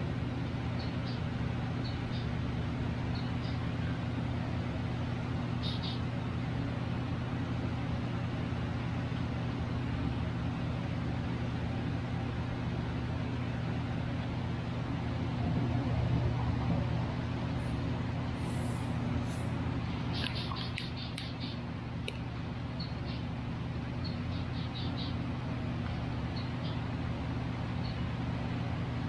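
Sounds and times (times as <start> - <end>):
constant rushing noise: 0.0 - 29.0
low mechanical hum: 0.0 - 29.0.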